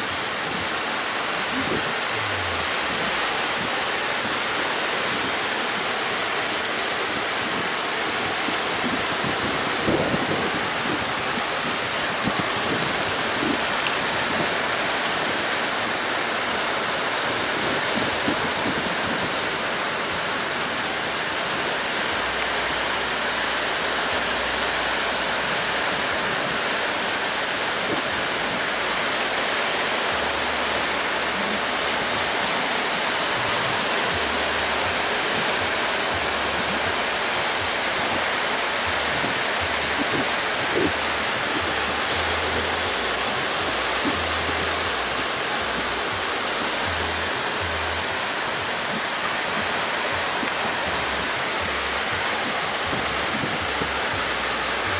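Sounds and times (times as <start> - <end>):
surf waves breaking: 0.0 - 54.9.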